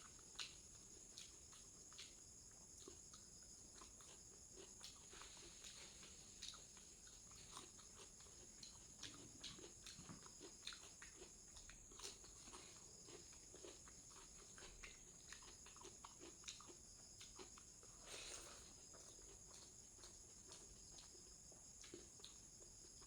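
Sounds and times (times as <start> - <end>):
chewing mouth clicks: 0.0 - 23.0.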